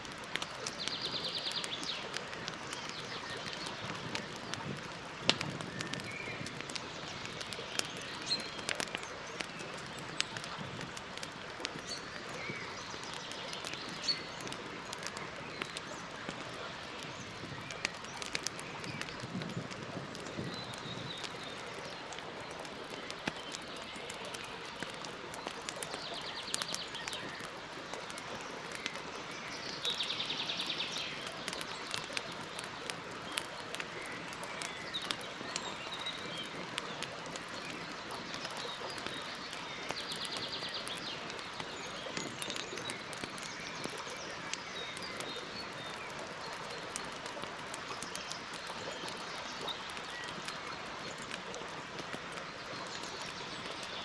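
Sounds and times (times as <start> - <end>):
campfire hissing and crackling: 0.0 - 54.0.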